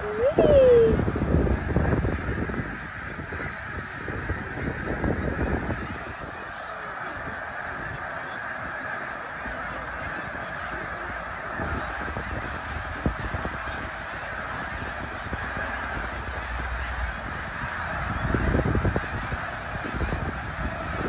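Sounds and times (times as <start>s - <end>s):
geese honking: 0.0s - 21.0s.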